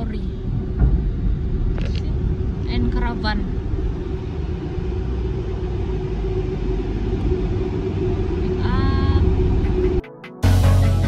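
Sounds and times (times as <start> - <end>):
car low rumble: 0.0 - 10.0
constant hum: 0.0 - 10.0.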